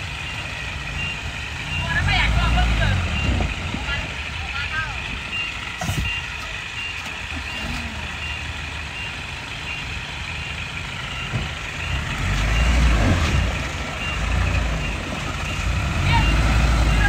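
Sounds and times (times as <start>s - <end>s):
diesel truck engine running: 0.0s - 17.0s
reversing alarm beeping: 0.0s - 17.0s.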